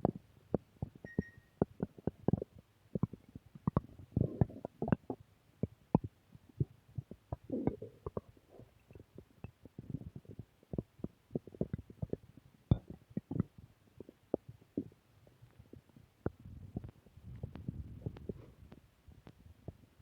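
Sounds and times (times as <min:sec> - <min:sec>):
stomach growling: 0:00.0 - 0:20.0.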